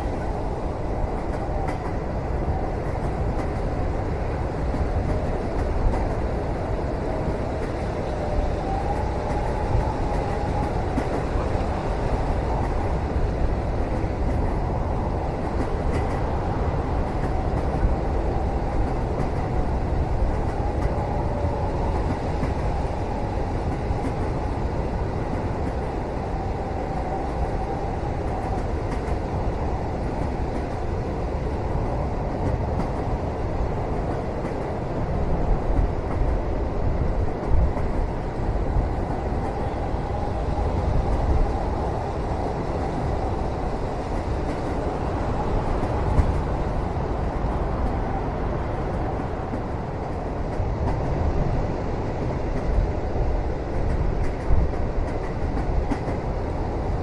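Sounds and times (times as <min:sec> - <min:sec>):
moving train rumble: 0:00.0 - 0:57.0.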